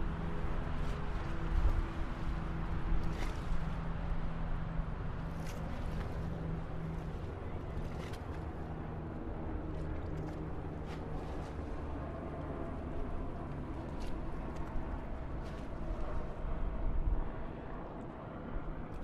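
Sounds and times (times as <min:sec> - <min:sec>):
highway traffic rumble: 0:00.0 - 0:19.0
low engine drone: 0:00.0 - 0:19.0.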